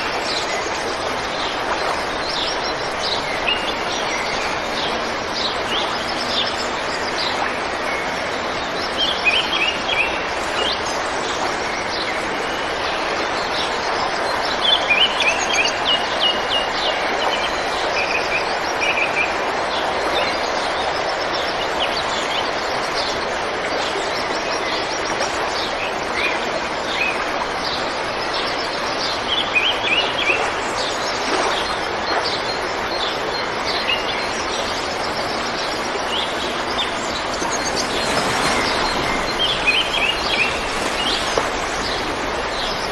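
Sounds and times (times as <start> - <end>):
river water flowing over rocks: 0.0 - 42.9.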